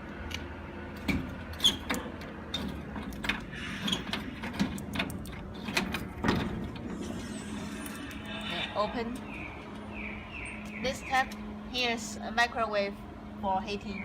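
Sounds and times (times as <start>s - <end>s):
steady hum: 2.4s - 14.0s.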